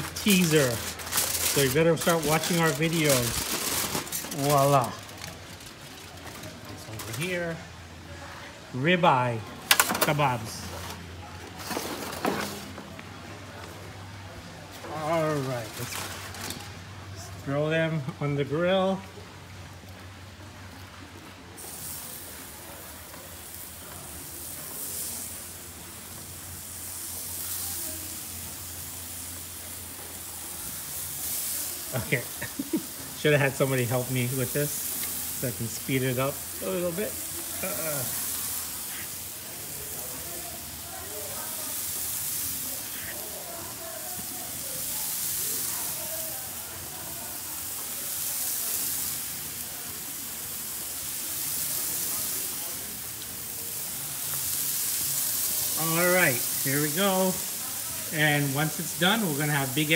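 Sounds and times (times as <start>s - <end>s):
meat sizzling on a hot grill: 0.0s - 59.9s.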